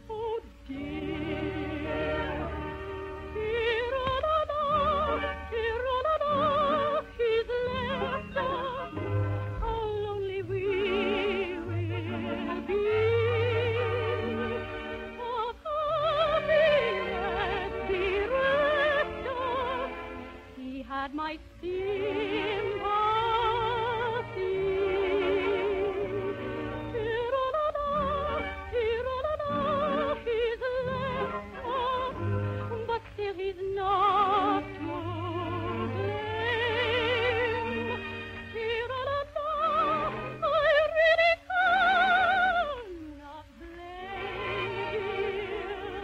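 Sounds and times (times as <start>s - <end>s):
operatic voice singing with vibrato: 0.0s - 46.0s
orchestral accompaniment: 0.6s - 20.7s, 21.6s - 42.3s.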